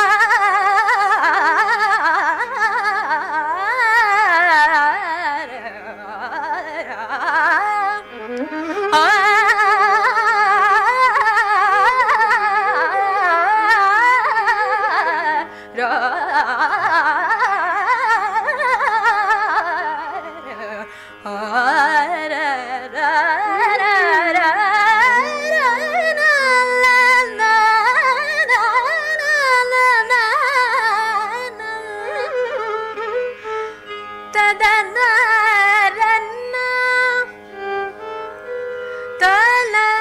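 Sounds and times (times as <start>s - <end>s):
woman singing: 0.0s - 33.3s, 34.3s - 37.4s, 39.2s - 40.0s
violin melody: 0.0s - 40.0s.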